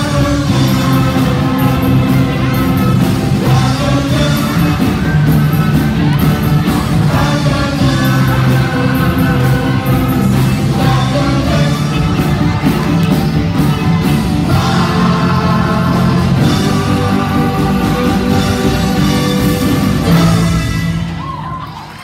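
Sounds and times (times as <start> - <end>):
person singing: 0.0 - 13.1, 14.4 - 20.5.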